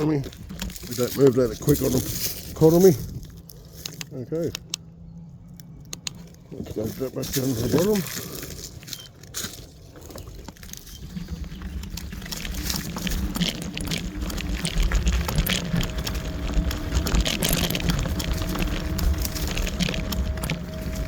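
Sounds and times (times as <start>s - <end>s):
scooter frame rattling: 0.0s - 4.2s, 6.1s - 21.0s
tyres crunching on rocks: 0.0s - 4.9s, 5.6s - 21.0s
faint motor whine: 0.0s - 21.0s
low rumble: 0.0s - 21.0s.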